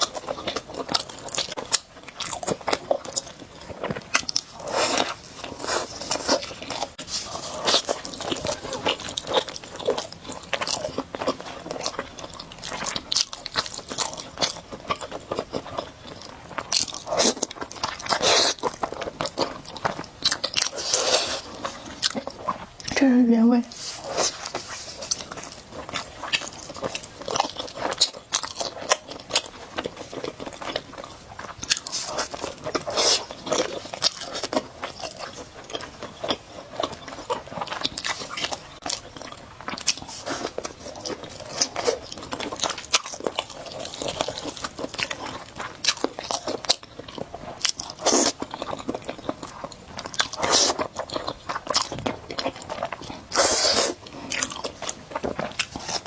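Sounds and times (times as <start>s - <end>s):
person chewing noodles: 0.0s - 23.0s, 23.7s - 56.0s.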